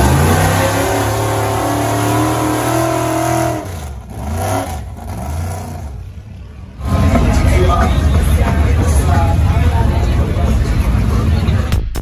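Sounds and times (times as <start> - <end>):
truck engine droning: 0.0 - 11.8.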